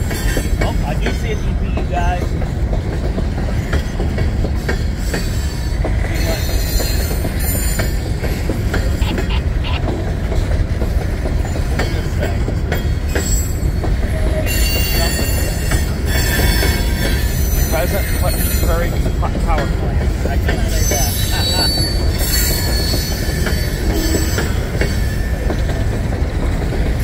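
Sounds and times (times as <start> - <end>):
scattered clacks: 0.0 - 14.1, 14.7 - 27.0
steel wheels rumbling on rail: 0.0 - 27.0.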